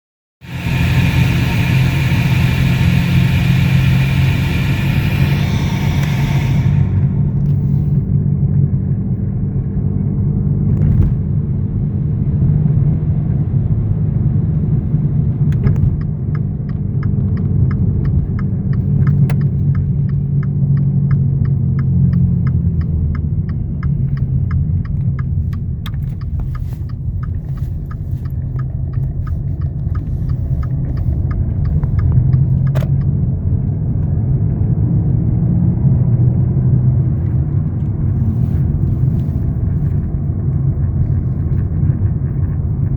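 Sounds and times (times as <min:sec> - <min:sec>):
vehicle running hum: 0:00.4 - 0:42.9.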